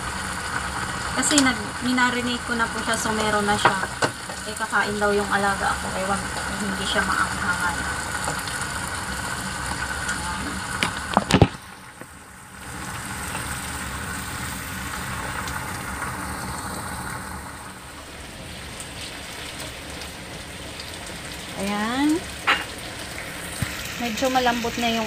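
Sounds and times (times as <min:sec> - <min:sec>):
potatoes sizzling in frying pan: 0:00.0 - 0:25.0.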